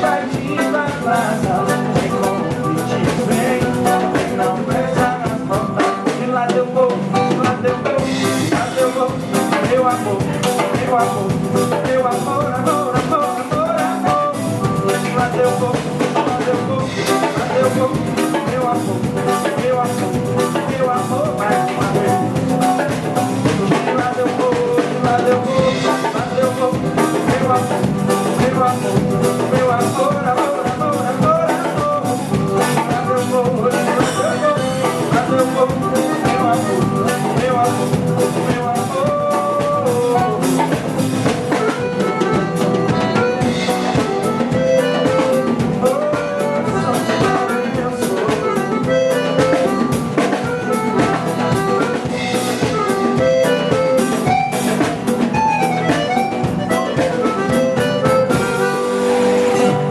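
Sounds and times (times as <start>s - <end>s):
band playing carnival music: 0.0s - 59.9s
drum kit beat: 0.0s - 59.9s.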